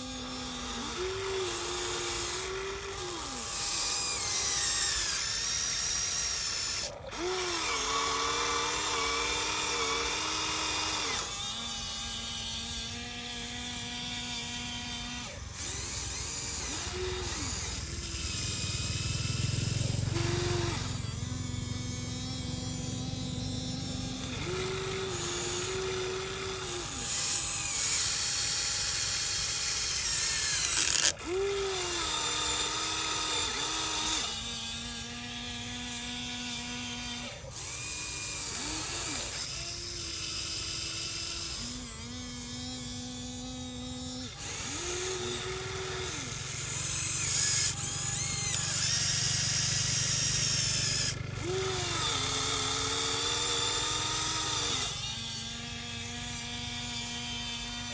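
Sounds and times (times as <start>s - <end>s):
electric motors whining: 0.0s - 57.9s.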